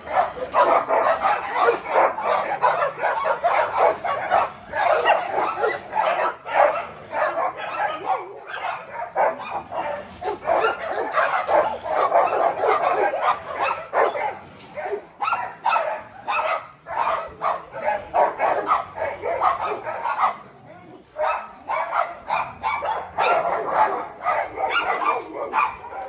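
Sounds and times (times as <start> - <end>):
dogs barking and yipping: 0.0 - 26.0.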